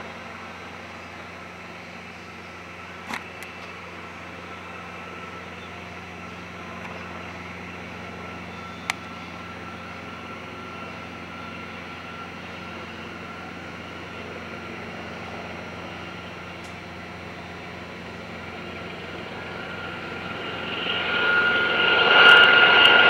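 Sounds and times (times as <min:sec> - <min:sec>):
helicopter hum with high whine: 0:00.0 - 0:23.0.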